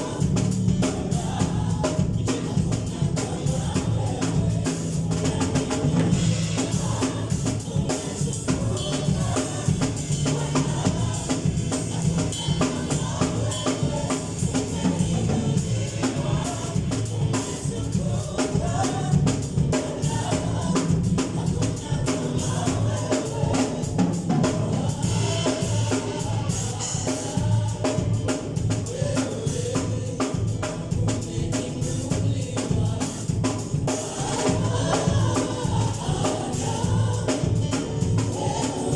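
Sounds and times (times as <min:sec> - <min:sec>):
bass line: 0:00.0 - 0:38.9
drum kit groove: 0:00.0 - 0:38.9
voices singing along: 0:00.0 - 0:38.9.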